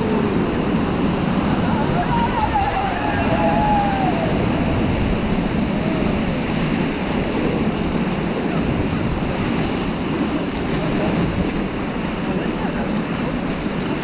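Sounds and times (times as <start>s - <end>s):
rushing river water: 0.0s - 14.0s
wind buffeting microphone: 0.0s - 14.0s.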